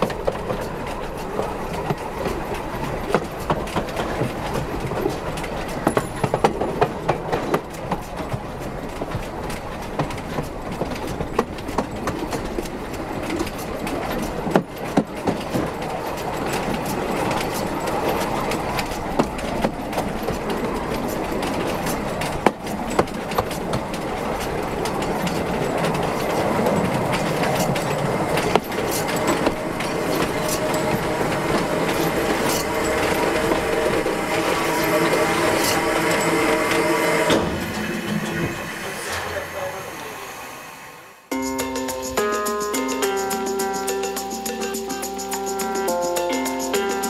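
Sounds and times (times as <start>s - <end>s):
wheels clicking over rail joints: 0.0s - 39.8s, 41.3s - 47.0s
train wheels rumbling on track: 0.0s - 47.0s.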